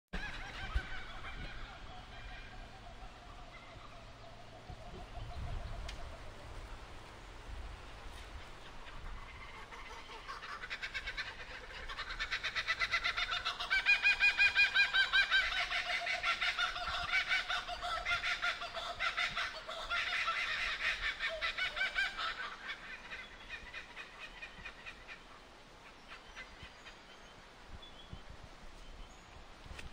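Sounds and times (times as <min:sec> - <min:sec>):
kookaburra laughing call: 0:00.2 - 0:06.5, 0:08.3 - 0:27.2.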